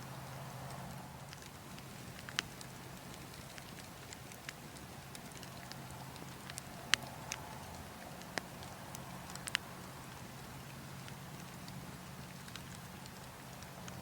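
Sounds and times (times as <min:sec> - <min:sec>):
burning logs crackling and popping: 0:00.0 - 0:14.0
low wind rumble: 0:00.0 - 0:14.0.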